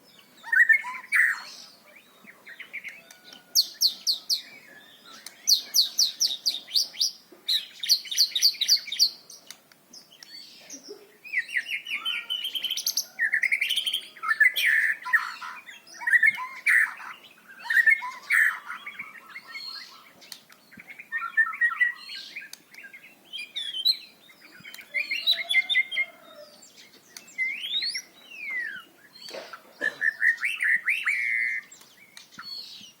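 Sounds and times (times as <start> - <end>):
bird singing varied song: 0.0 - 33.0.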